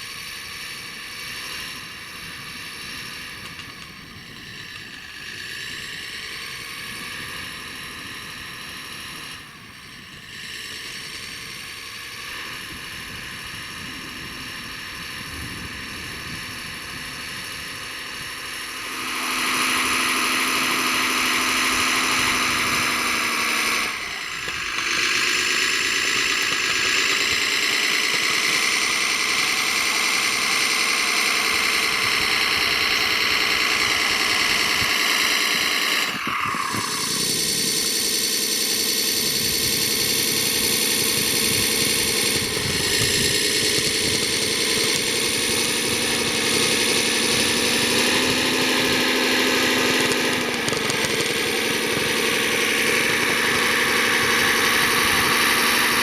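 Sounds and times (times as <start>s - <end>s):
model machine motors whining: 0.0s - 56.0s.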